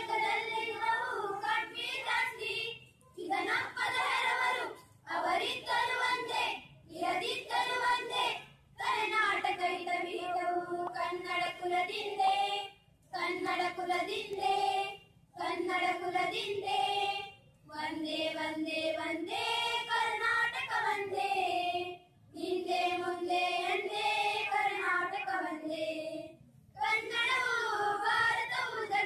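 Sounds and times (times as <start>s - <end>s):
girls singing together: 0.0s - 29.0s.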